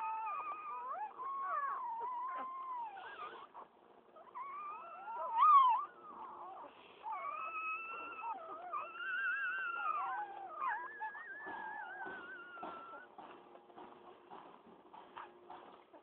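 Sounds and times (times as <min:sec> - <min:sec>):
puppy squeal: 0:00.0 - 0:13.2
puppies whining: 0:00.0 - 0:16.0.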